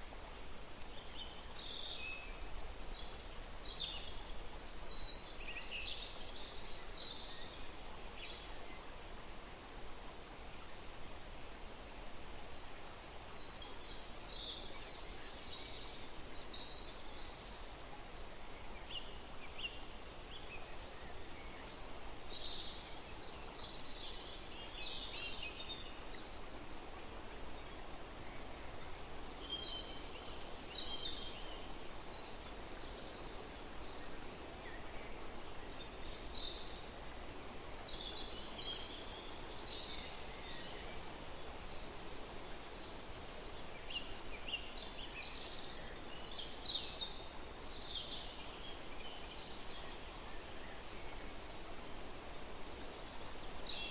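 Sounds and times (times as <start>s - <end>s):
songbirds chirping and twittering: 0.0s - 53.9s
wind in trees: 0.0s - 53.9s.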